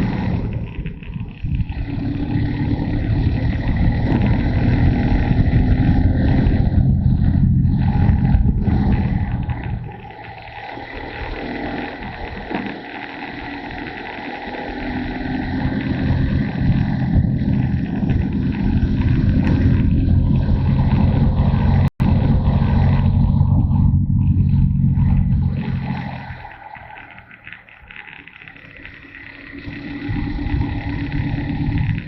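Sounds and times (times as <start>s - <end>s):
motorcycle riding: 0.0s - 32.0s
wind rumble on microphone: 0.0s - 32.0s.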